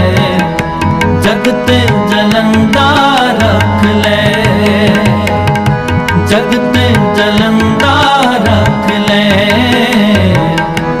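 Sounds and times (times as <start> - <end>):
sustained melody: 0.0 - 11.0
tabla rhythm: 0.0 - 11.0.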